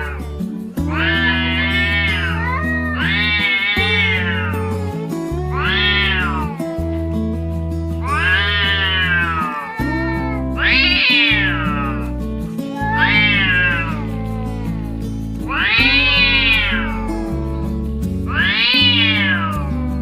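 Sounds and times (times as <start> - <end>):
cat meowing: 0.0 - 6.7, 8.0 - 17.4, 18.3 - 19.8
background music with low notes: 0.0 - 20.0.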